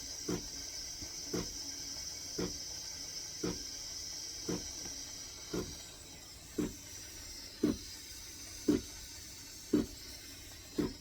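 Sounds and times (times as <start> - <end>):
steam wand hissing: 0.0 - 11.0.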